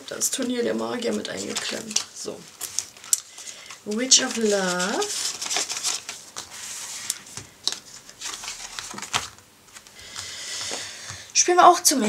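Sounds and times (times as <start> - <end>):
paper and plastic sleeves rustling: 0.0 - 11.4.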